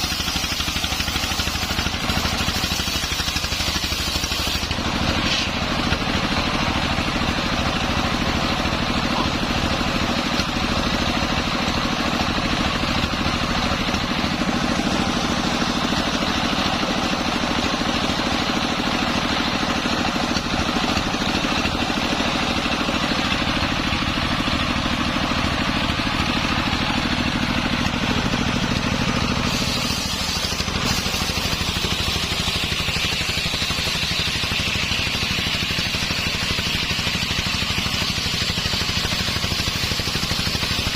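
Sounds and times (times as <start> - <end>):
engine-driven circular saw running: 0.0 - 40.9.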